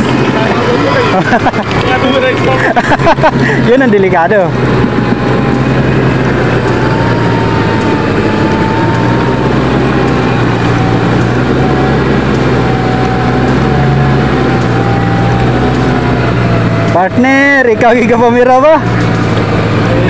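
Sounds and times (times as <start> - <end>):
thin whine: 0.0 - 20.0
truck engine at low revs: 0.0 - 20.0.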